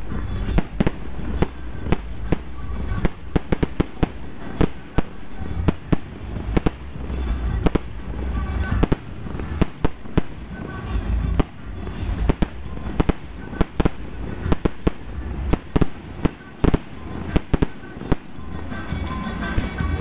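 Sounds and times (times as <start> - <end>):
continuous low rumble: 0.0 - 20.0
fireworks sharp bangs: 0.0 - 20.0.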